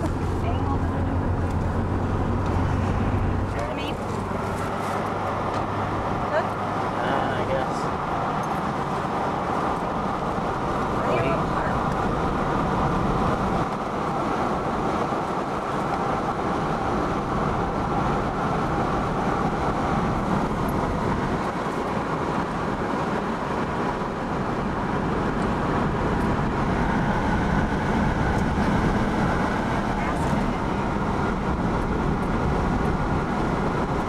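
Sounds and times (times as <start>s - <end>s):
car driving on highway: 0.0s - 34.0s.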